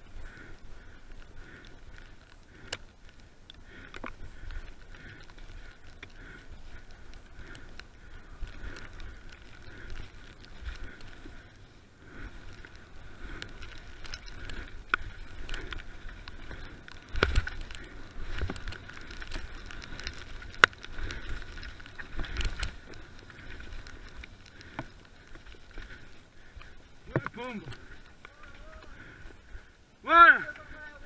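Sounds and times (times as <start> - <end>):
bike rattling: 0.0 - 31.0
bike tyres rumbling on dirt: 0.0 - 31.0.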